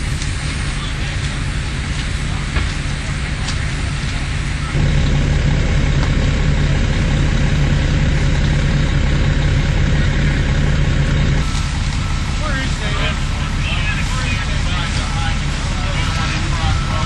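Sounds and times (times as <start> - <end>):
diesel engine at high idle: 0.0 - 17.0.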